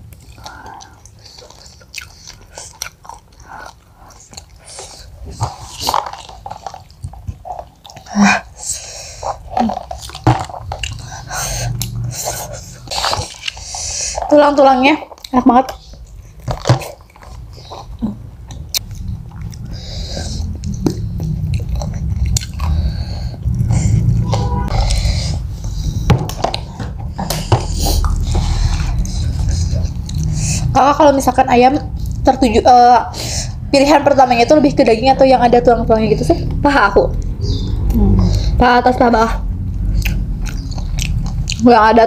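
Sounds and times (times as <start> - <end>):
chewing and biting food: 0.0 - 24.2, 24.8 - 32.3, 39.5 - 41.8.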